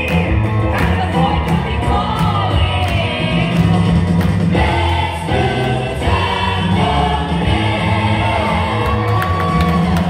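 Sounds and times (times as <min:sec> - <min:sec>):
group singing over loudspeakers: 0:00.8 - 0:03.8, 0:04.5 - 0:09.8.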